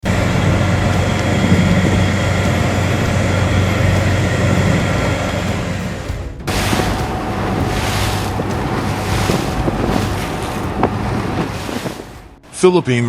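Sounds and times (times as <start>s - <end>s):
engine droning: 0.0s - 12.5s
wind and water rushing: 0.0s - 13.0s.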